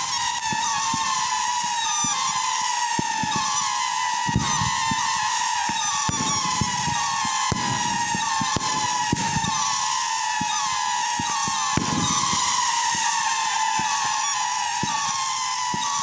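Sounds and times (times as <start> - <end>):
fireworks cracks and pops: 0.0 - 16.0
fireworks whistling: 0.0 - 16.0.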